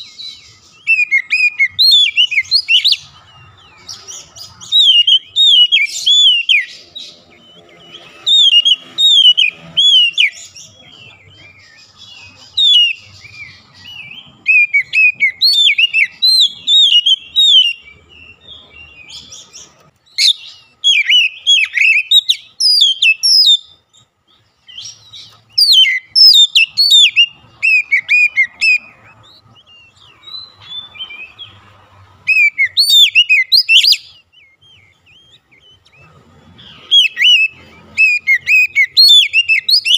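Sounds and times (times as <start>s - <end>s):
bird singing whistled phrases: 0.0s - 3.0s, 4.6s - 19.4s, 20.1s - 23.9s, 24.7s - 31.6s, 32.3s - 39.9s.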